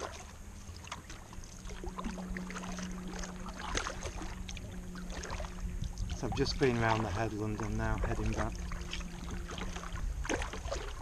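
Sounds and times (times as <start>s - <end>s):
paddle splashes and drips: 0.0s - 11.0s
steady low hum: 0.0s - 11.0s.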